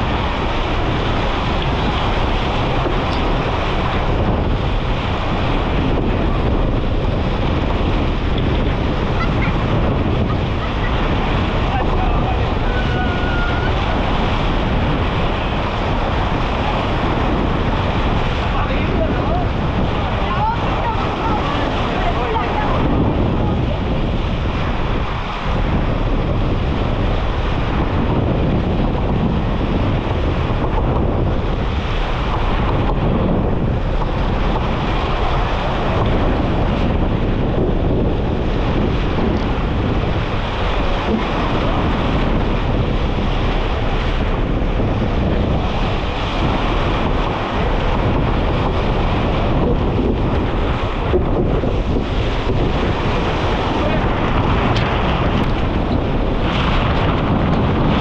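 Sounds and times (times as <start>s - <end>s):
waves and rushing water: 0.0s - 58.0s
wind buffeting microphone: 0.0s - 58.0s.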